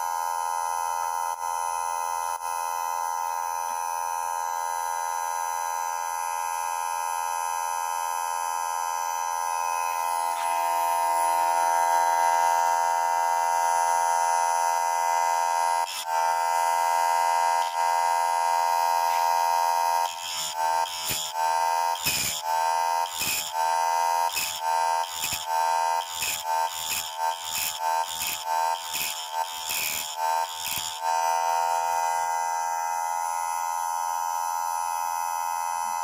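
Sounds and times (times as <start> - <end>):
chain saw sharpener motor whining: 0.0 - 36.0.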